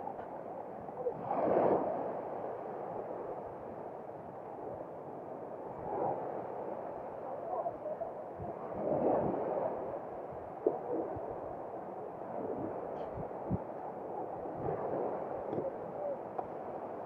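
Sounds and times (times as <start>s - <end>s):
muffled beach noise: 0.0s - 17.0s.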